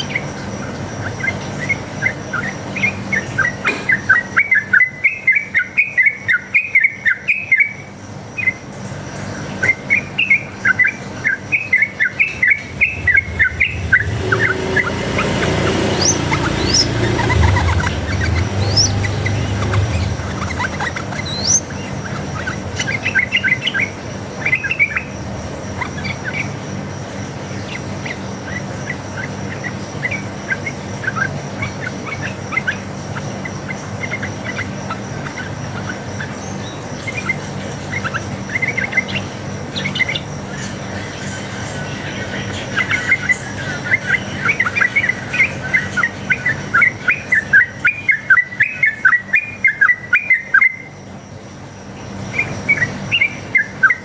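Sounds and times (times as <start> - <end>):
bird calling in bubbly chirps: 0.0 - 8.8, 9.4 - 54.0
steady low hum: 7.8 - 54.0.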